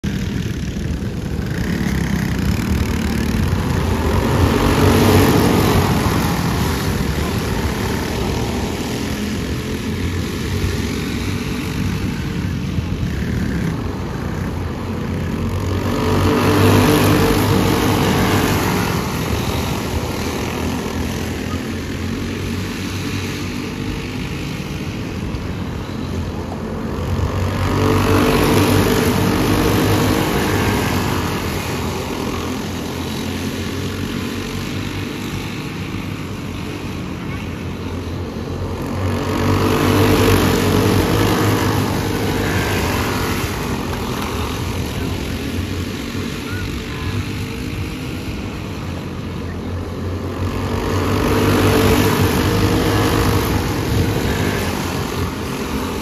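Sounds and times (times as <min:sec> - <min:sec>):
racing kart engines buzzing: 0:00.0 - 0:56.0.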